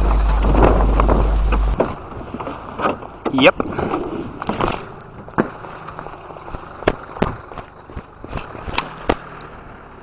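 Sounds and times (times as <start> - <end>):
car engine idling: 0.0 - 3.3, 4.2 - 10.0.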